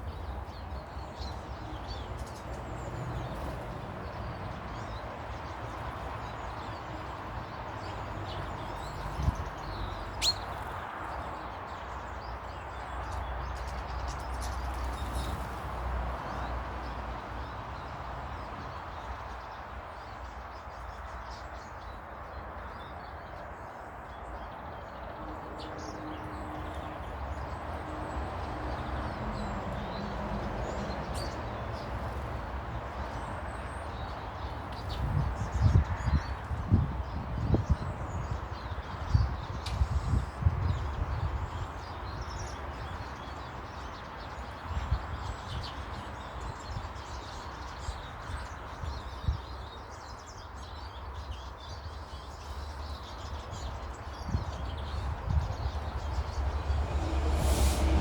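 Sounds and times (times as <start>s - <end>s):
small birds chirping: 0.0s - 57.2s
outdoor background noise: 0.0s - 58.0s.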